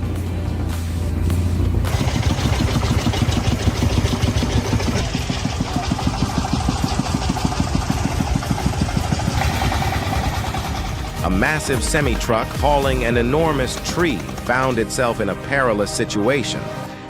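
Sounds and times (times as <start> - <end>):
heavy machinery engine throbbing: 0.0 - 15.5.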